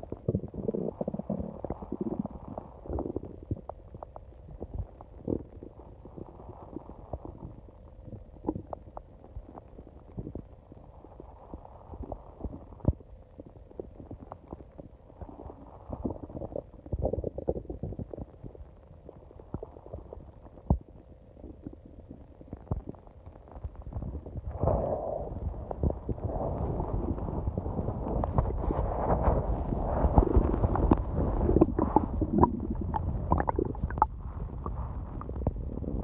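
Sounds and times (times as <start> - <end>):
stomach growling and gurgling: 0.0 - 36.0.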